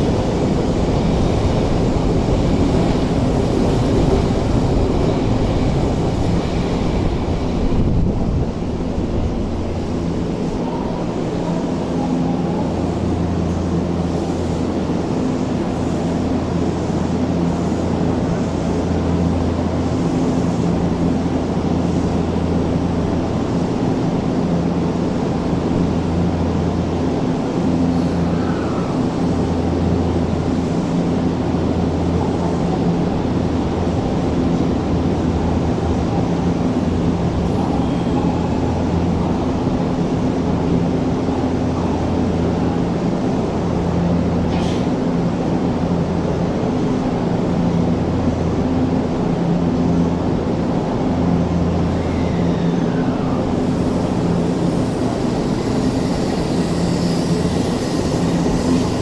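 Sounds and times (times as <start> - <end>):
continuous background rush: 0.0 - 59.0
electric train equipment humming: 0.0 - 59.0.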